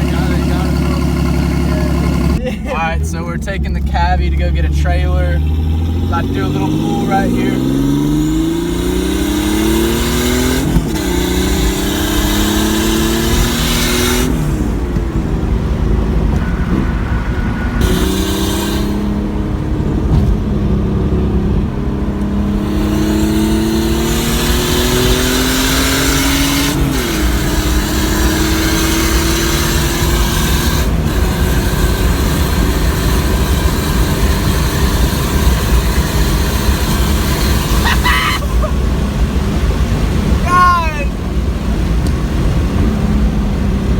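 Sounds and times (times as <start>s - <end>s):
car engine accelerating: 0.0s - 43.9s
road noise: 0.0s - 43.9s.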